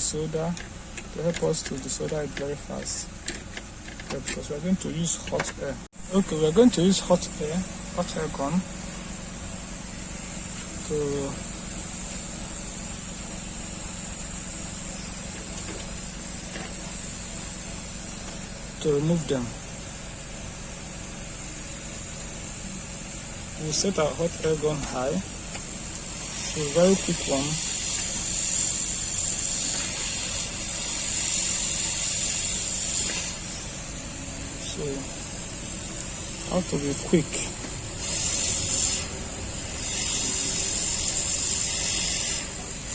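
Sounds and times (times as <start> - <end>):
hot air gun blowing: 6.0 - 42.9.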